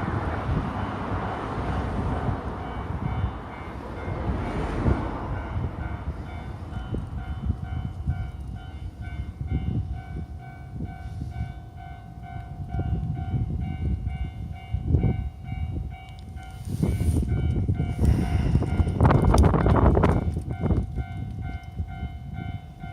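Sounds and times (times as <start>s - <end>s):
train wheels rumbling on rails: 0.0s - 22.9s
level crossing warning bell: 0.4s - 1.8s, 2.5s - 22.9s.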